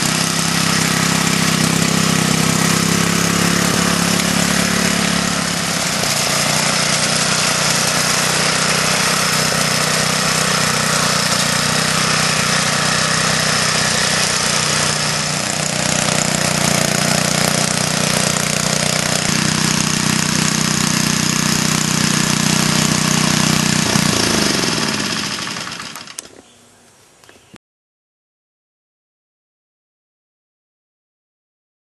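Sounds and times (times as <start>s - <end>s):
mower engine running: 0.0s - 26.3s.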